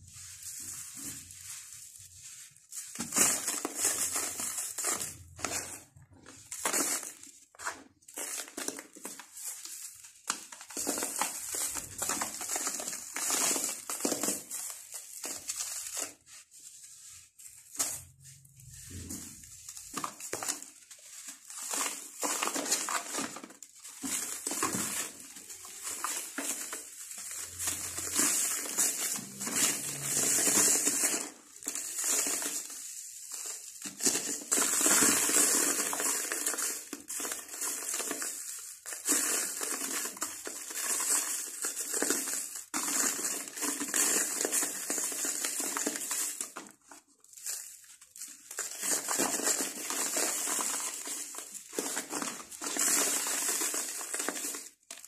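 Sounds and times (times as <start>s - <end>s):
dry chunks crushed by hand: 0.0s - 55.0s.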